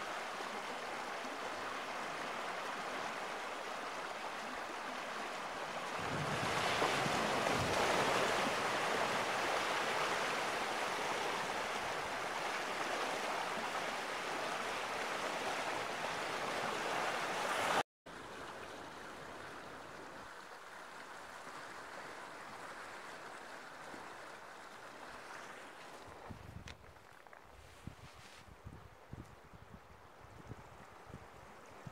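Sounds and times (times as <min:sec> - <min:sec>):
river water rushing with ice: 0:00.0 - 0:26.4.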